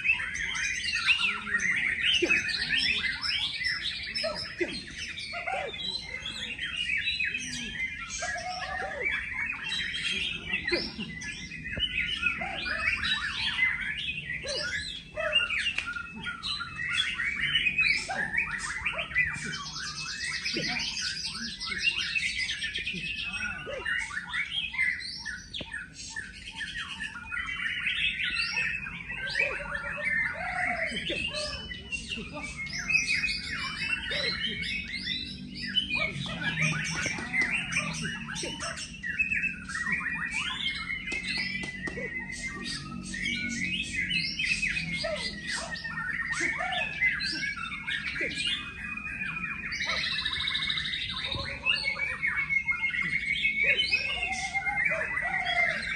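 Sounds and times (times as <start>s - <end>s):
songbirds chorus: 0.0s - 55.9s.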